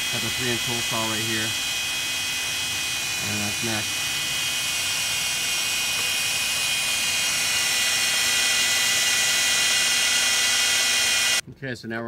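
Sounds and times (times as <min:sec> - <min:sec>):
cordless drill boring into metal: 0:00.0 - 0:11.4.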